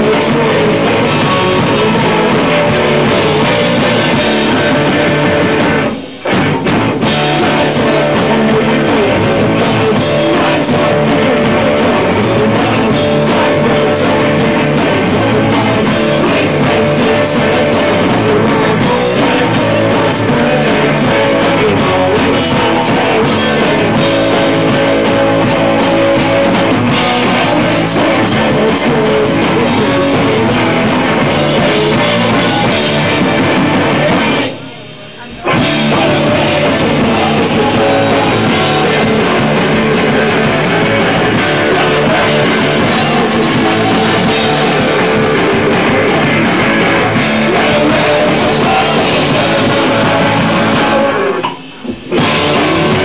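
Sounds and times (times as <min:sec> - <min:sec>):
man singing: 0:00.0 - 0:06.0, 0:07.0 - 0:53.0
backing vocals: 0:00.0 - 0:53.0
punk rock band playing: 0:00.0 - 0:53.0.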